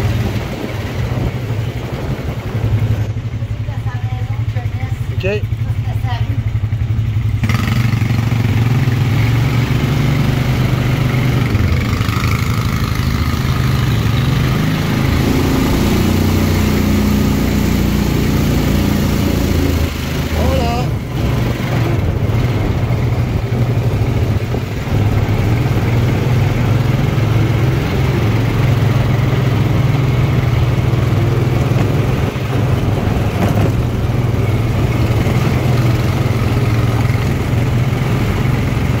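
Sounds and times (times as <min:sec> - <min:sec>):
atv engine droning: 0:00.0 - 0:39.0
tyres rumbling over cobblestones: 0:00.0 - 0:39.0.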